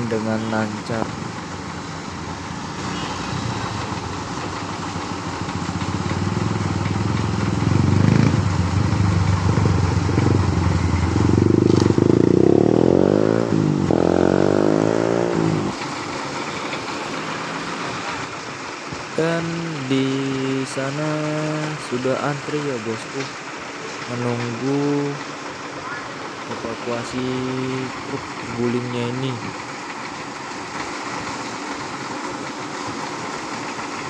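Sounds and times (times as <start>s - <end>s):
vehicle engine accelerating: 0.0s - 34.0s.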